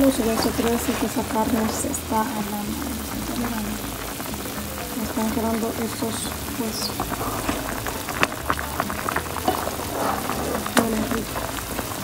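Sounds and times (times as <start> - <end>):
pot bubbling and popping: 0.0 - 12.0.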